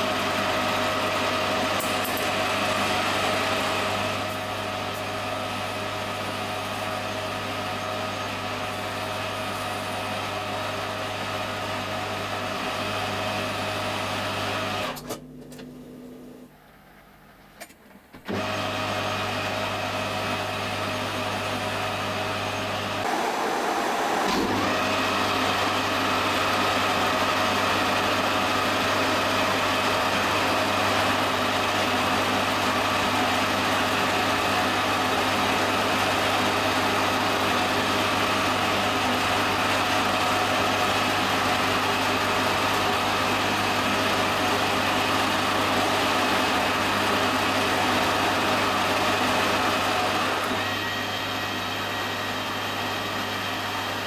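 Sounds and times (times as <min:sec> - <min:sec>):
metal lathe running: 0:00.0 - 0:15.0, 0:18.3 - 0:54.0.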